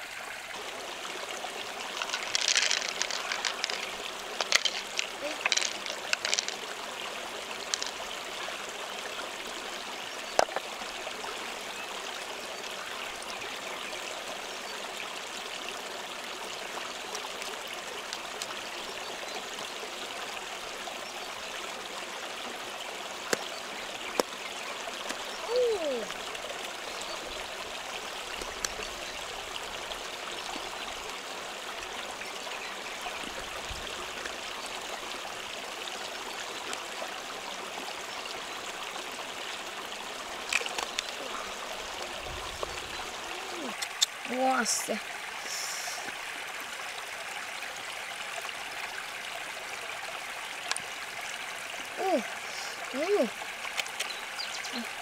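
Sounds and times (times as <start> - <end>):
shallow stream running: 0.0 - 55.0.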